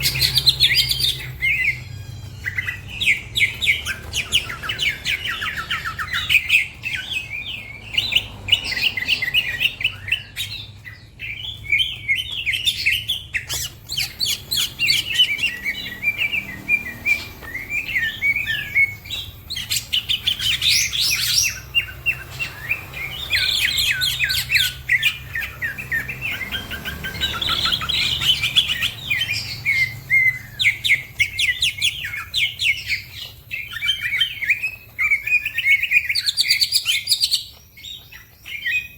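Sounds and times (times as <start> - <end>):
bird singing rapid chirps and trills: 0.0 - 38.9.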